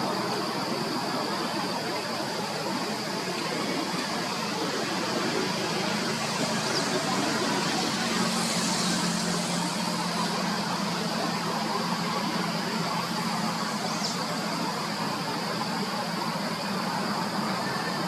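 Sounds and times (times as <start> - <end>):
outdoor background noise: 0.0 - 18.0
vehicle engine hum: 0.1 - 18.0.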